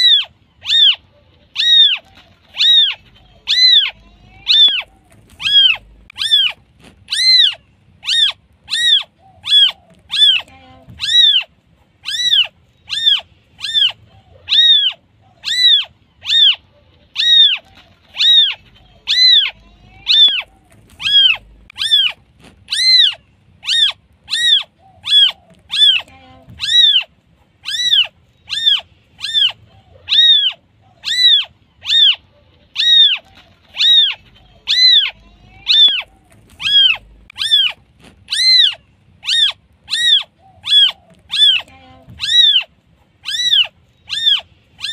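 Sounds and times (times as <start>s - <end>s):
kitten mewing: 0.0s - 44.9s.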